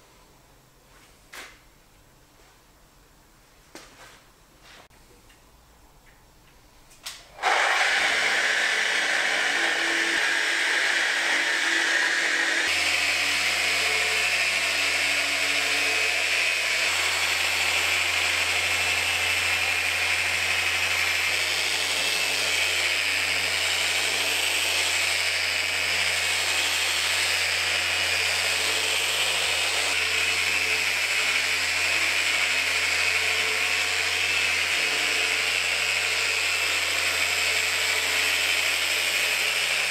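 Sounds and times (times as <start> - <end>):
orbital sander running on wood: 7.4 - 39.9.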